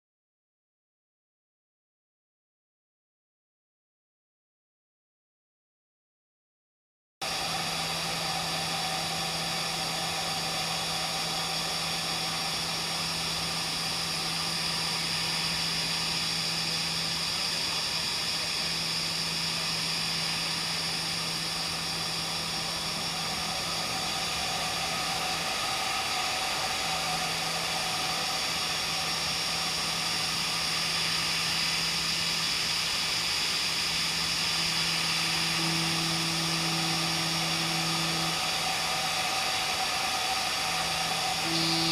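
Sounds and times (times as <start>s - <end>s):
high whine: 7.2s - 41.9s
higher hum: 7.2s - 41.9s
milling machine spindle hum: 7.2s - 41.9s
metal cutting noise: 7.3s - 41.9s.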